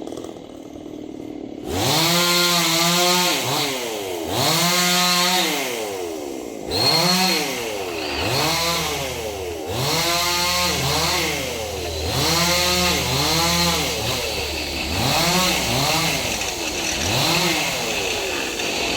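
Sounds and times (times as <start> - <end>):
chainsaw revving: 0.0 - 18.9.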